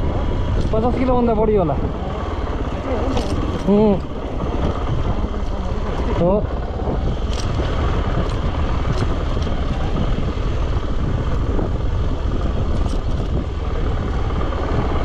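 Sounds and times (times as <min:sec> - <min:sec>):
motorcycle engine rumble: 0:00.0 - 0:15.0
wind on microphone: 0:00.0 - 0:15.0.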